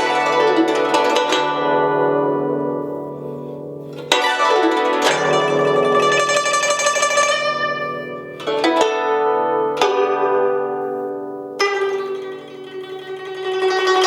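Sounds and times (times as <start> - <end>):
plucked zither notes: 0.0 - 14.0.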